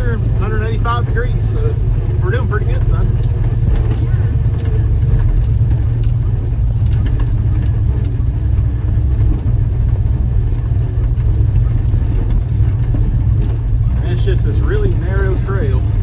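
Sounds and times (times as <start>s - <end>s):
car engine rumbling: 0.0s - 16.0s
light clicks and rattles: 0.0s - 16.0s.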